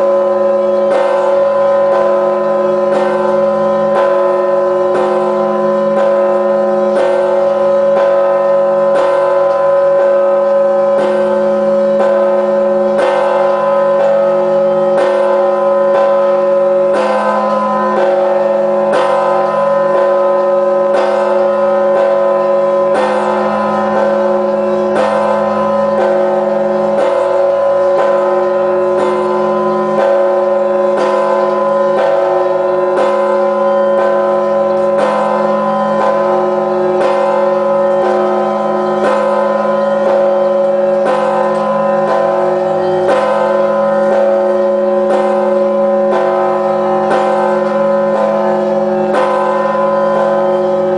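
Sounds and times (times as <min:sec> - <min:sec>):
deep church bell tolling: 0:00.0 - 0:50.9.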